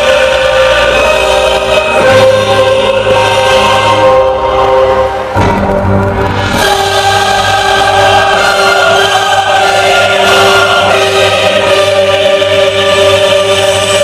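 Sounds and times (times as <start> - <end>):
loud music over sound system: 0.0 - 14.0
steady low bass: 0.0 - 14.0.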